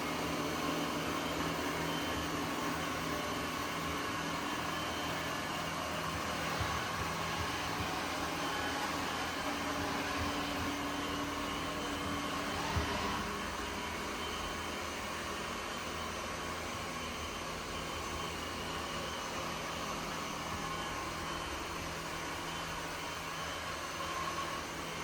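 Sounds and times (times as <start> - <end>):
robot vacuum motor humming: 0.1 - 25.0.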